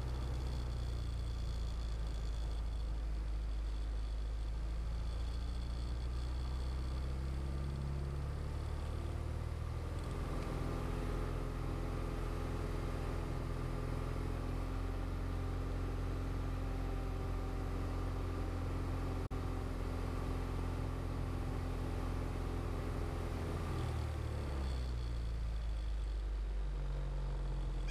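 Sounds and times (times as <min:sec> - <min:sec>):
propeller aircraft engine running: 0:00.0 - 0:09.1, 0:12.4 - 0:27.9.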